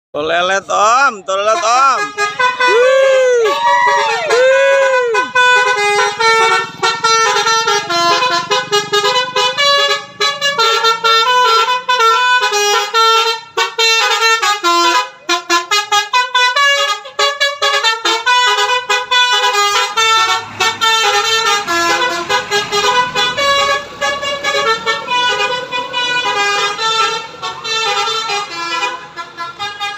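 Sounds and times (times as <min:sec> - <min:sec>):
air horns playing a melody: 0:01.4 - 0:29.9.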